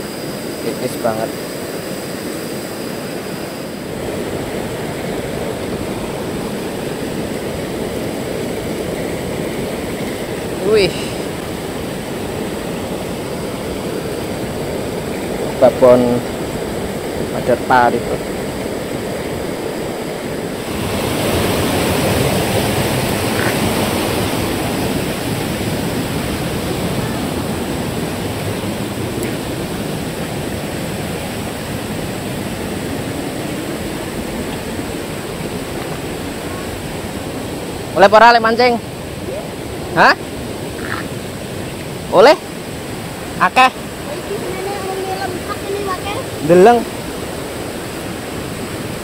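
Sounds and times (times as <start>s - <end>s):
river water rushing over rocks: 0.0s - 49.0s.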